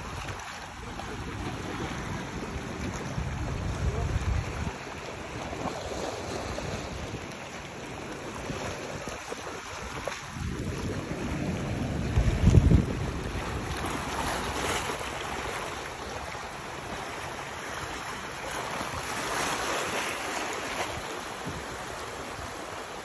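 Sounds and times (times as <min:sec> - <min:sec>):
wind buffeting microphone: 0:00.0 - 0:19.7
choppy sea water lapping: 0:00.0 - 0:23.0.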